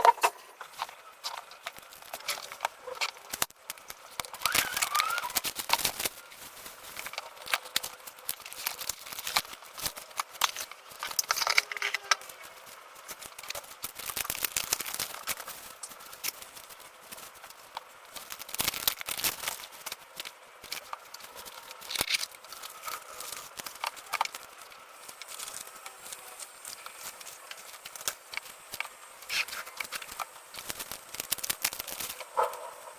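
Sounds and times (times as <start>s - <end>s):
cardboard and plastic crinkling: 0.0s - 32.9s.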